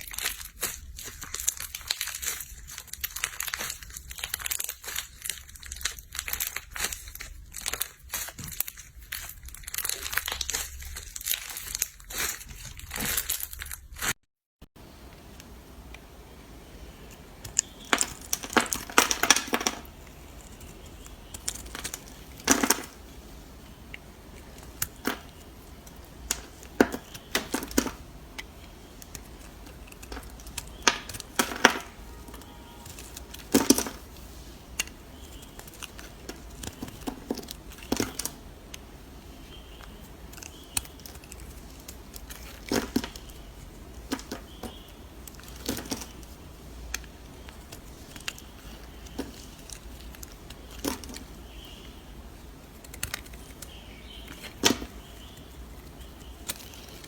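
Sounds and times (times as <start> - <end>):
dense crinkling and crackling: 0.0 - 57.0.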